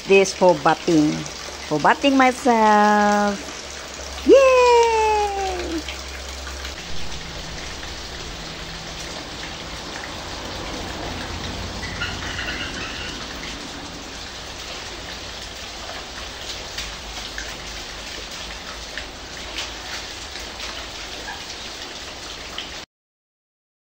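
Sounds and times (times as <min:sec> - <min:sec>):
heavy rain falling: 0:00.0 - 0:22.8
sharp drips and splashes: 0:00.0 - 0:22.9.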